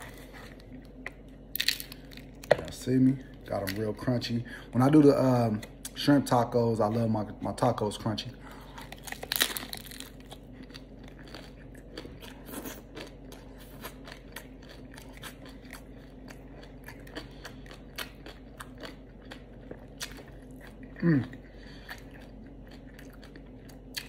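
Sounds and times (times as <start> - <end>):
crunchy taco being chewed: 0.0 - 4.2, 5.5 - 24.0.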